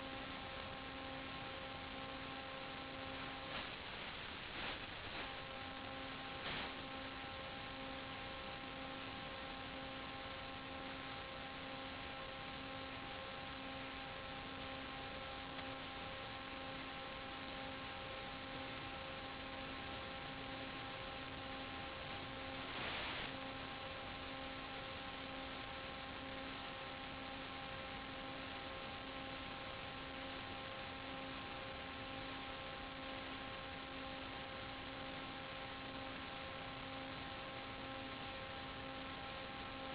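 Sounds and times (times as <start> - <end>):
constant hiss: 0.0 - 39.9
electrical hum: 0.0 - 39.9.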